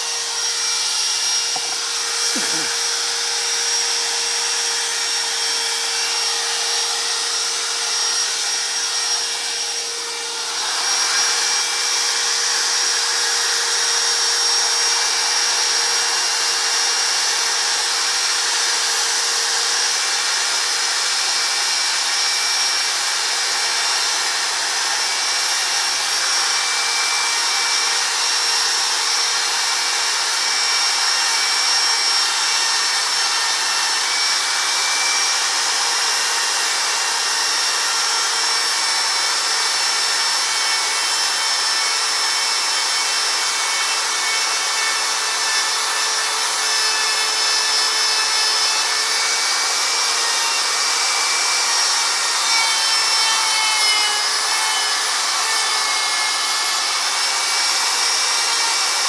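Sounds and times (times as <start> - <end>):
power sander on wood: 0.0 - 59.0.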